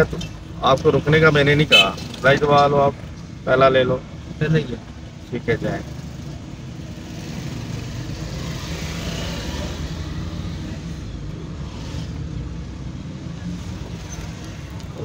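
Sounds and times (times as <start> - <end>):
car engine: 0.0 - 15.0
road noise inside car: 0.0 - 15.0.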